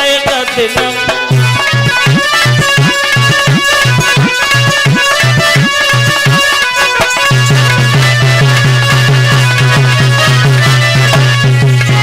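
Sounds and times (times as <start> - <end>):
fast hand drum rhythm: 0.0 - 12.0
held melodic tones: 0.2 - 12.0.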